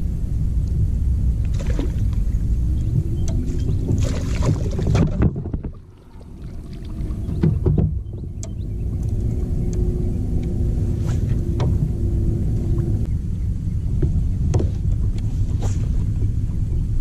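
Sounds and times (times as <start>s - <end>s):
faint steady hum: 0.0s - 17.0s
wind buffeting microphone: 0.0s - 17.0s.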